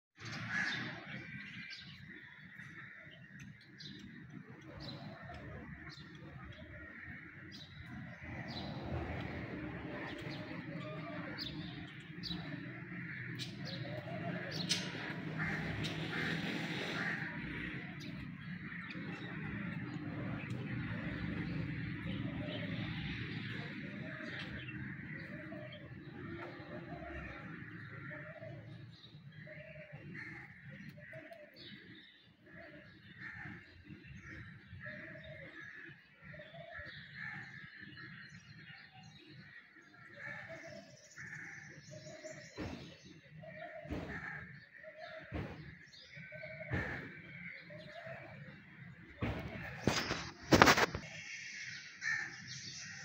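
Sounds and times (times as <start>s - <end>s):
birds calling faintly: 0.2s - 53.0s
outdoor background noise: 0.2s - 53.0s.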